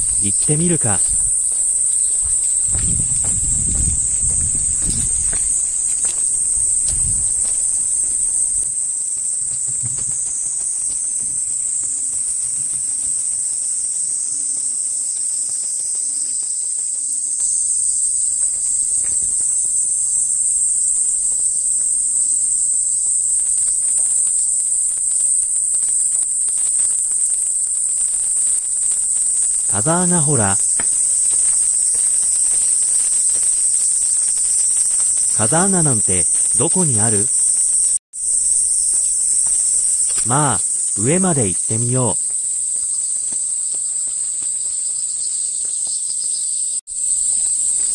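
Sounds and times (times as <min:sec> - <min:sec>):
faint footsteps on path: 0:00.0 - 0:47.9
insects chorus: 0:00.0 - 0:47.9.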